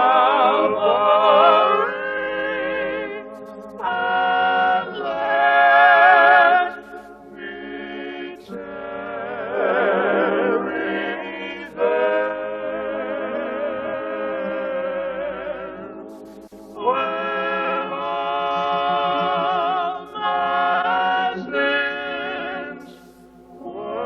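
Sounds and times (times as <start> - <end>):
voices singing a hymn: 0.0 - 24.0.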